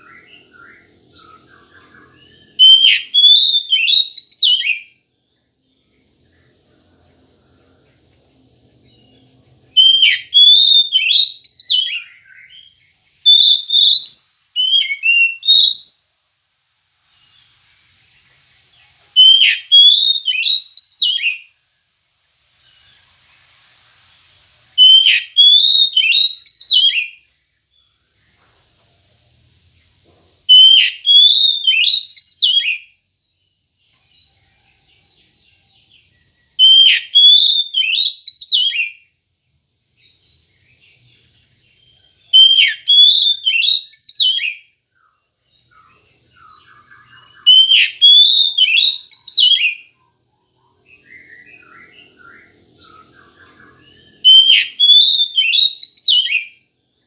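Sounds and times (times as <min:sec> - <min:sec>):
bird singing whistled notes: 0:00.0 - 0:16.2, 0:18.1 - 0:21.8, 0:22.6 - 0:28.4, 0:29.6 - 0:57.0.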